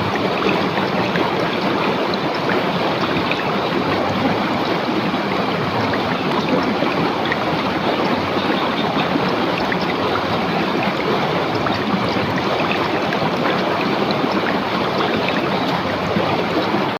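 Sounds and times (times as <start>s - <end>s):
river rushing over stones: 0.0s - 16.9s
water splashes and trickles: 0.0s - 16.9s.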